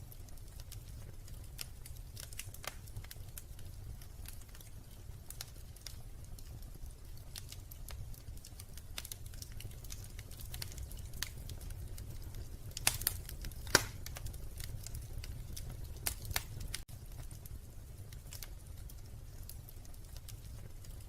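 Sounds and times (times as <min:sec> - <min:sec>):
fire popping and snapping: 0:00.0 - 0:21.0
wood fire crackling: 0:00.0 - 0:21.0
loud fire pops: 0:00.1 - 0:21.0.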